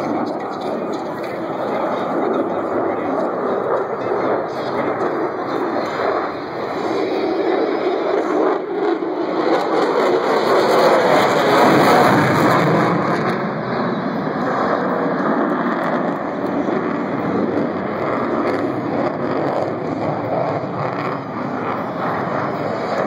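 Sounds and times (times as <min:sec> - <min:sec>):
distant jet engine rushing: 0:00.0 - 0:23.0.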